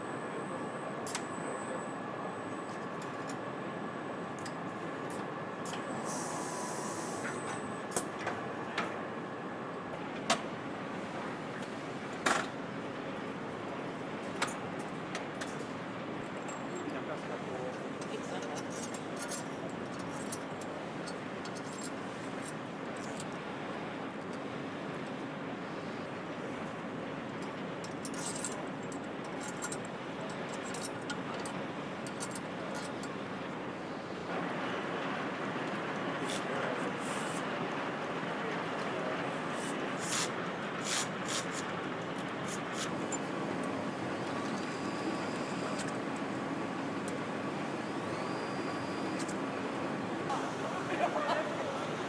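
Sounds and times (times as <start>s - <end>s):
machinery hum and hiss: 0.0s - 52.0s.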